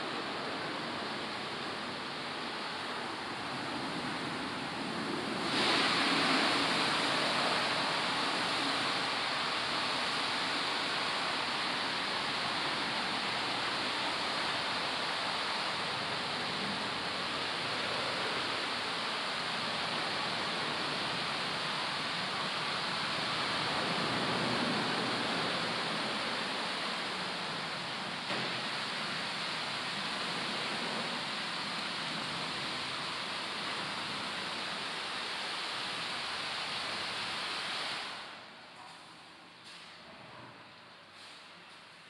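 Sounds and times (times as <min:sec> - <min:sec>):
water spray hiss: 0:00.0 - 0:38.5, 0:41.1 - 0:41.6.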